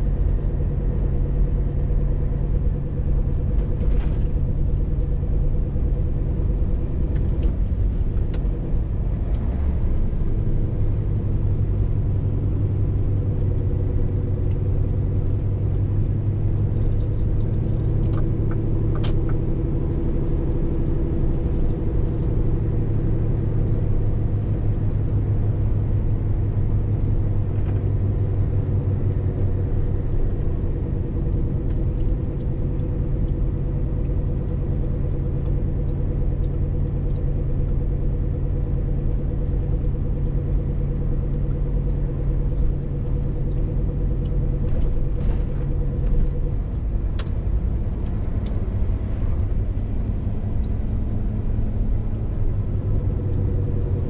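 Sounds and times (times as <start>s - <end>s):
diesel lorry engine running: 0.0s - 54.0s
road rumble: 0.0s - 54.0s.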